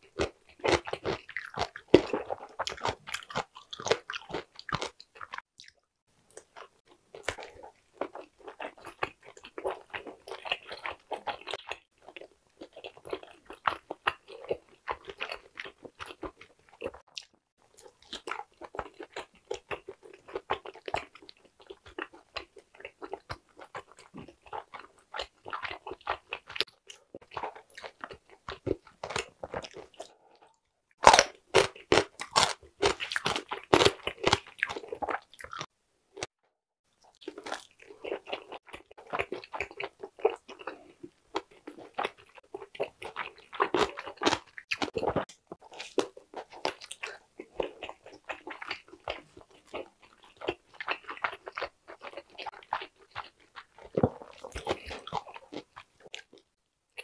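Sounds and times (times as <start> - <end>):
close chewing and biting: 0.0 - 36.3, 37.0 - 57.0.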